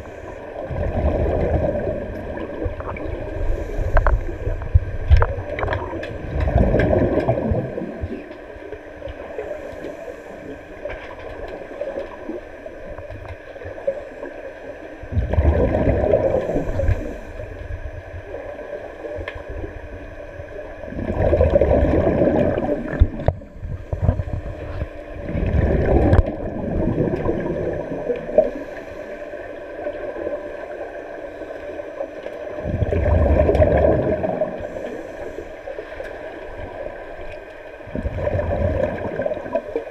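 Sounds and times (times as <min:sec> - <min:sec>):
faint steady hum: 0:00.0 - 0:39.9
underwater bubbling: 0:00.0 - 0:39.9.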